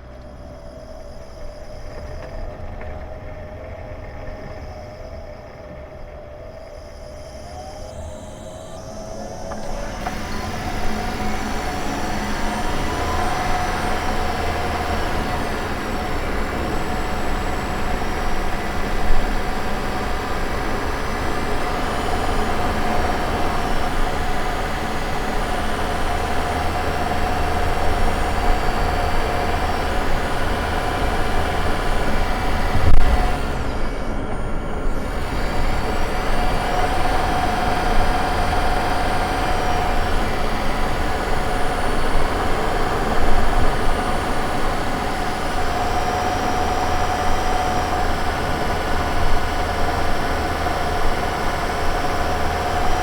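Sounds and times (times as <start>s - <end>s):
engine whine: 0.0s - 53.0s.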